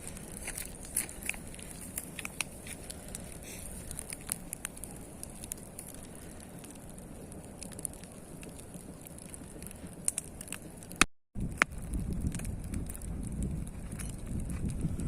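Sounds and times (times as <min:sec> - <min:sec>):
bonfire crackling: 0:00.0 - 0:15.0
sharp pops of fire: 0:00.0 - 0:15.0.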